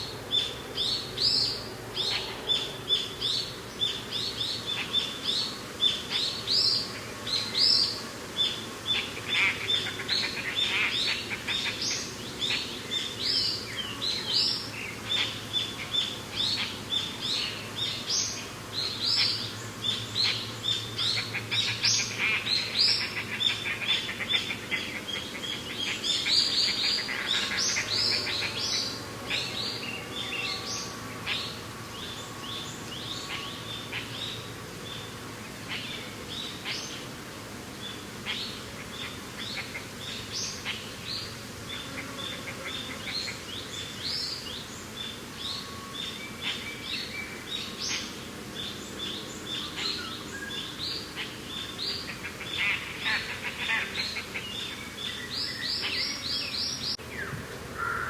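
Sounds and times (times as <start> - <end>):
birds chirping and singing: 0.0 - 37.1, 37.8 - 58.0.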